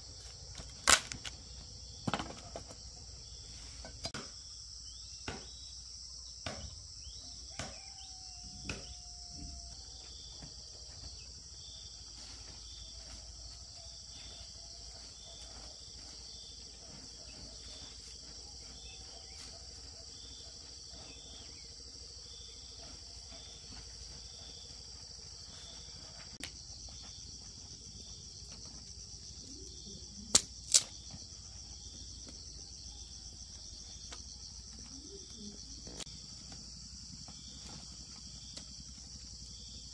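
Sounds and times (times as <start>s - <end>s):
crickets chorus: 0.0s - 39.9s.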